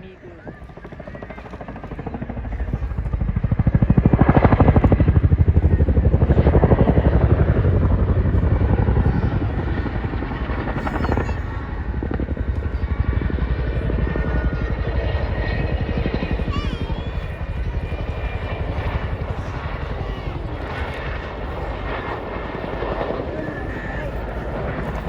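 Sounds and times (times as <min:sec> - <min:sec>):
helicopter rotor chopping: 0:00.0 - 0:25.0.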